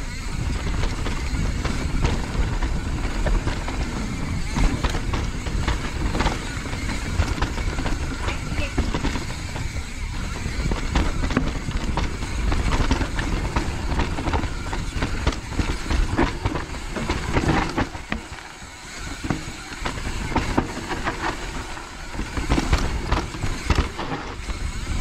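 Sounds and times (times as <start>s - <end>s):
mountain bike clattering and rattling: 0.0s - 25.0s
wind on microphone: 0.0s - 25.0s.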